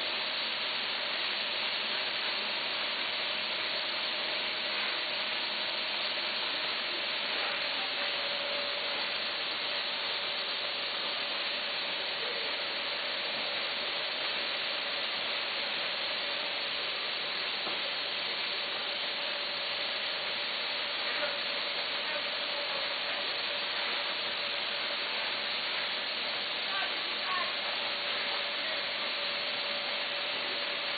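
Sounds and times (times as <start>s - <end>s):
packaging machine hiss and whine: 0.0s - 30.9s.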